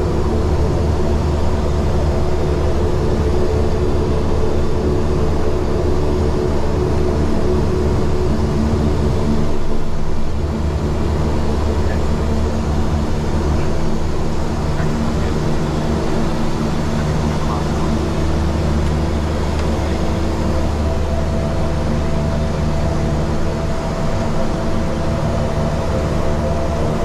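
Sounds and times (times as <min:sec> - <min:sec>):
turboprop engines humming: 0:00.0 - 0:27.0.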